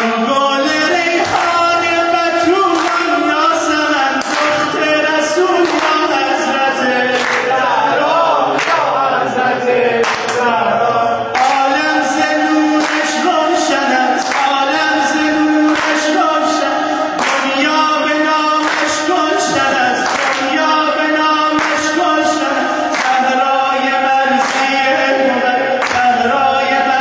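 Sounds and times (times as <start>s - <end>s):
man singing through a microphone: 0.0s - 7.8s, 8.4s - 27.0s
sharp rhythmic beats: 0.0s - 27.0s.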